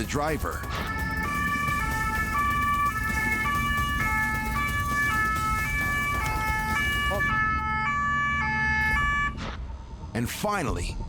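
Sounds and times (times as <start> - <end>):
two-tone police siren: 0.0 - 9.6
engine and road rumble: 0.0 - 10.2.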